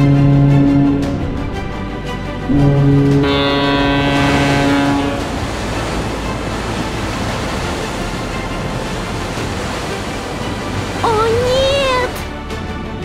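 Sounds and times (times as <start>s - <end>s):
low horn blast: 0.0s - 10.9s
sea waves rushing: 0.0s - 13.0s
wind: 0.8s - 13.0s.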